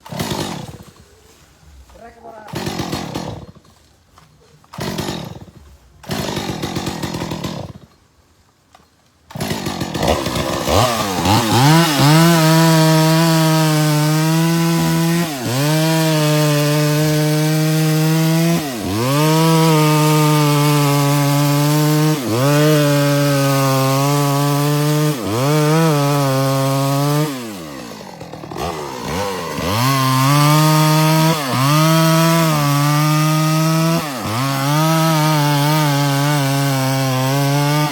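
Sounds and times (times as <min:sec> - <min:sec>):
chainsaw cutting a tree: 0:00.0 - 0:01.1, 0:01.9 - 0:03.8, 0:04.7 - 0:08.0, 0:09.3 - 0:37.9.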